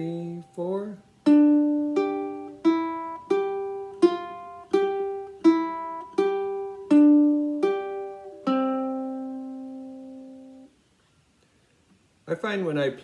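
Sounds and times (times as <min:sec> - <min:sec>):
ukulele plucked melody: 0:00.0 - 0:10.7.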